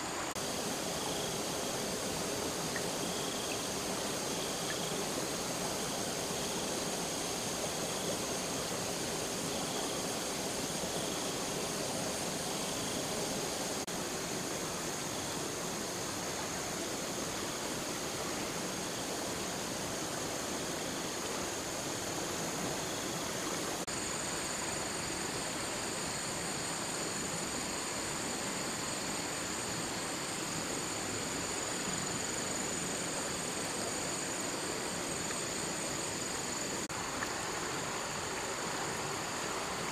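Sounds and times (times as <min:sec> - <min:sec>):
high insect drone: 0:00.0 - 0:39.9
stream water rushing: 0:00.0 - 0:39.9.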